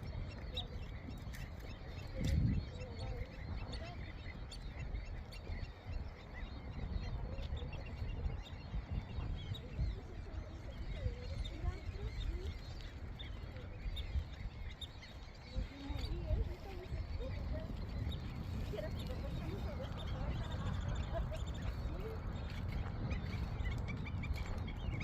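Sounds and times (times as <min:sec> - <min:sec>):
flock of waterbirds calling: 0:00.0 - 0:25.0
steady low rumble: 0:00.0 - 0:25.0.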